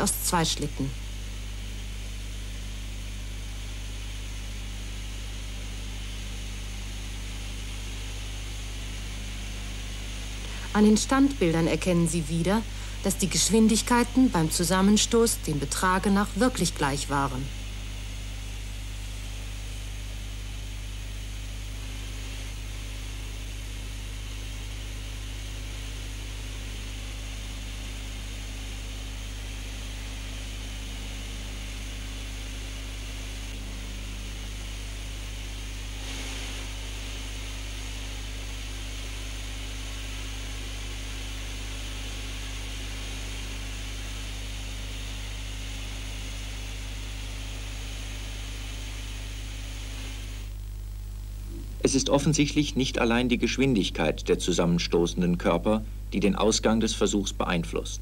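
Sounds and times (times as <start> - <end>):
low mains hum: 0.0 - 58.0
videotape hiss: 0.0 - 58.0.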